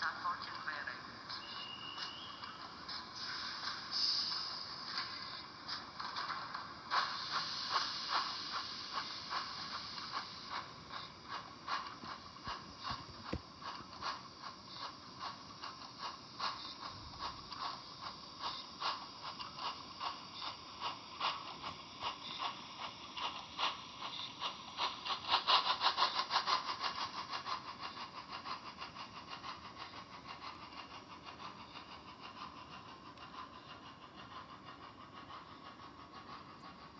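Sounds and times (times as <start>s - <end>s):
model train wheels clicking: 0.0s - 36.9s.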